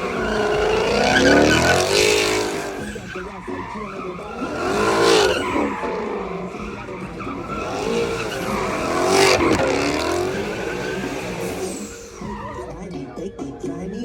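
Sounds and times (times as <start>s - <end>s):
car engine revving: 0.0s - 14.0s
tyres squealing: 0.0s - 14.0s.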